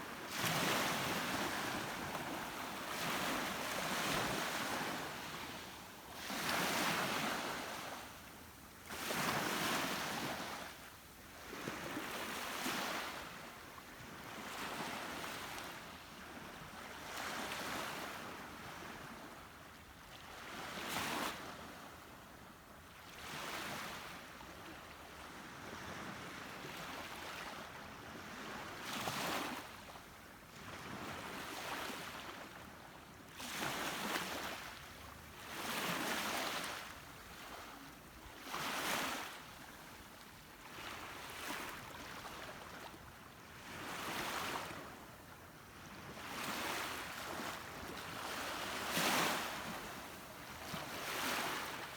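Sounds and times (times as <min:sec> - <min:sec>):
wind: 0:00.0 - 0:51.9.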